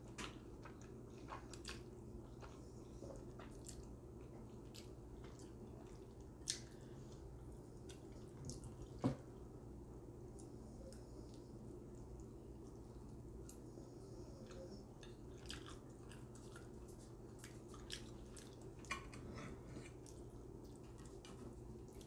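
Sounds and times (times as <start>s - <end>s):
squishy chewing: 0.0s - 9.0s, 10.3s - 22.0s.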